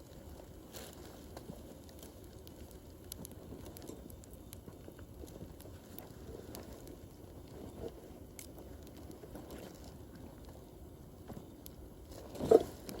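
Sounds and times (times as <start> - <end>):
low hiss of flames: 0.0 - 13.0
wood fire popping: 0.0 - 13.0.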